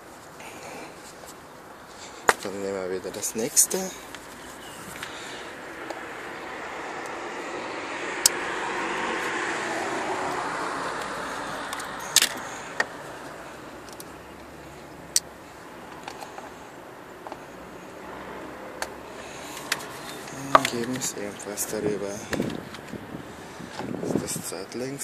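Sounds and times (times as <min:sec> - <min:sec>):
car passing by: 0:03.6 - 0:16.8, 0:17.4 - 0:24.9.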